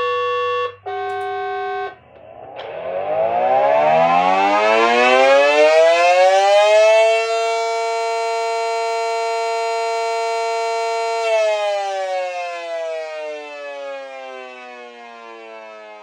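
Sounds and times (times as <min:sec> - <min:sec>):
siren winding up: 0:00.0 - 0:15.4.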